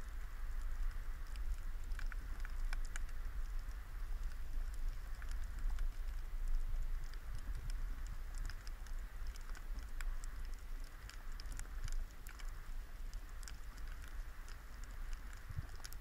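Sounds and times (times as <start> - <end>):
low rumble of water: 0.0 - 16.0
underwater clicks crackling: 0.0 - 16.0.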